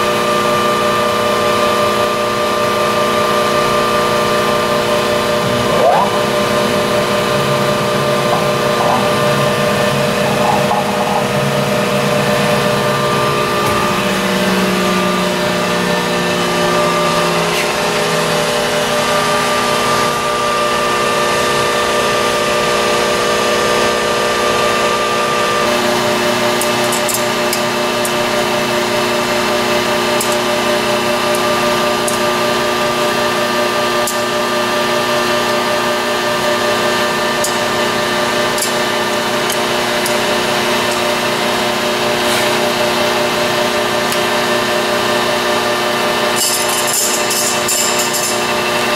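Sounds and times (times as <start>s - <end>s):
grinder machine humming: 0.0s - 48.9s.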